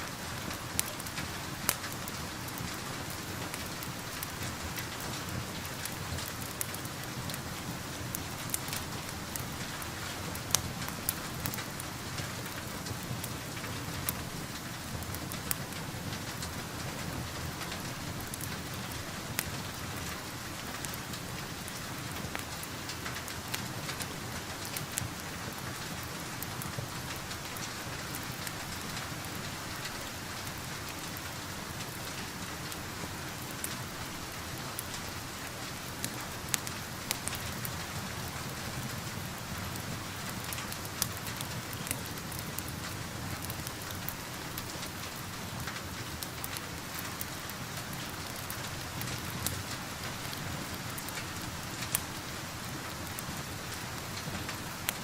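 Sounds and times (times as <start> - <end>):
steady rain falling: 0.0 - 55.0
wood fire crackling: 0.0 - 55.0.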